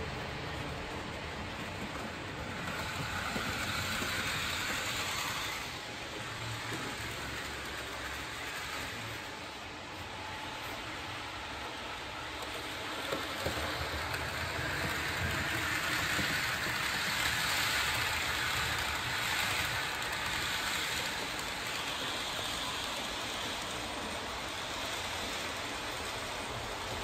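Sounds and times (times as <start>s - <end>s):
model train rattling on track: 0.0s - 27.0s.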